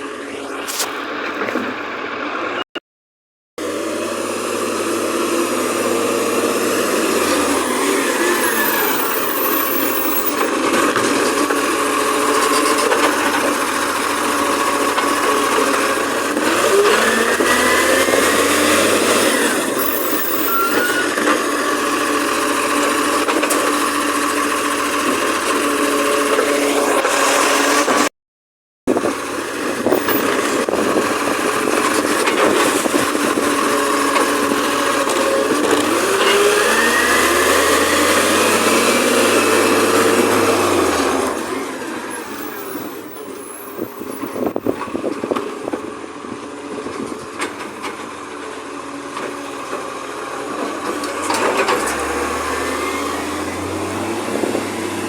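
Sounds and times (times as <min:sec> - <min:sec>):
diesel engine running and revving: 0:00.0 - 0:02.6, 0:03.6 - 0:28.1, 0:28.9 - 0:55.0.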